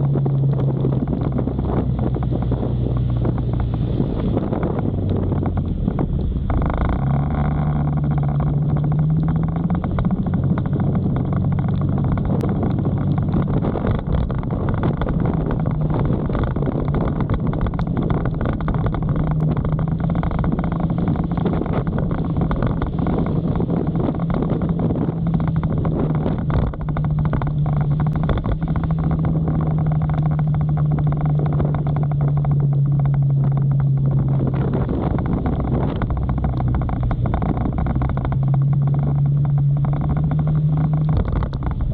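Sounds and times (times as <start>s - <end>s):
motorcycle engine running: 0.0s - 41.9s
wind and rain noise: 0.0s - 41.9s.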